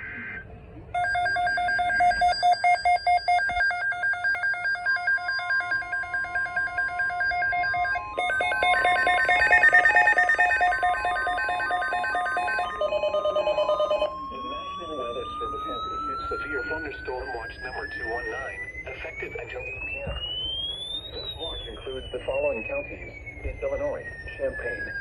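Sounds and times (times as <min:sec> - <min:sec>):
electronic alarm beeping: 0:00.0 - 0:25.0
steady warning tone: 0:00.0 - 0:25.0.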